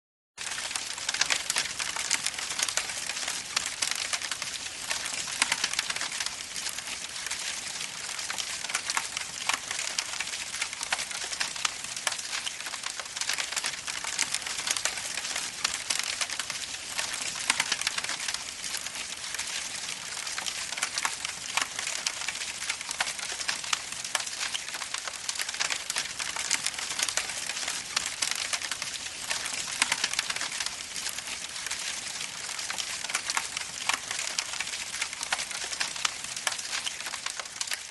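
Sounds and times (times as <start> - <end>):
rain falling steadily: 0.4 - 37.9.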